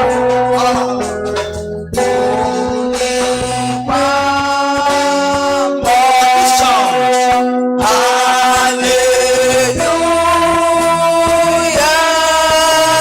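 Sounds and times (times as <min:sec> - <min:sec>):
worship singing with instruments: 0:00.0 - 0:13.0.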